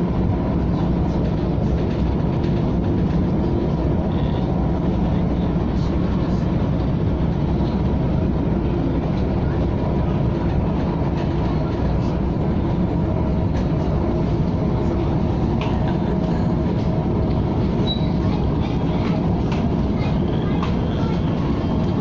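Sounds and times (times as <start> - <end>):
electric train running: 0.0 - 22.0.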